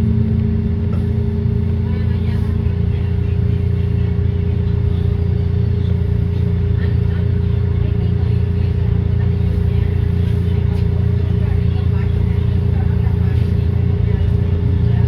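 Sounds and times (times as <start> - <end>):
electrical hum: 0.0 - 15.0
trolley car rumbling: 0.0 - 15.0.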